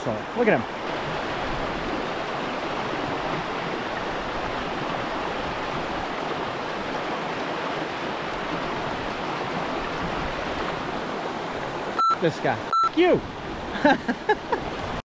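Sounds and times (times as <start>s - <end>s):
river rushing over rocks: 0.0s - 12.6s.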